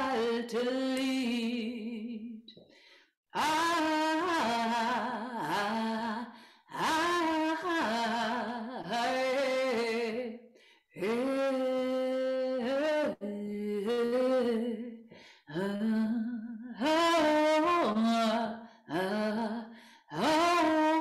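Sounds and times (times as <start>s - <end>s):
woman singing wordless chant: 0.0s - 2.5s, 3.4s - 21.0s.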